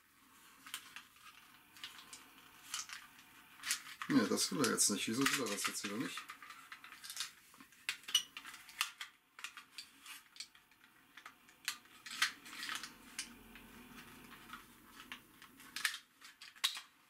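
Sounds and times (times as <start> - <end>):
plastic toy parts clicking: 0.6 - 13.4, 14.0 - 17.0.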